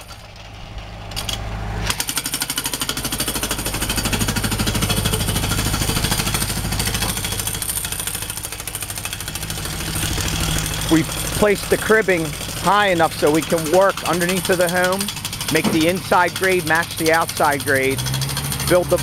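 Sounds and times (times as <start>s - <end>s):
jackhammer hammering concrete: 1.9s - 19.0s.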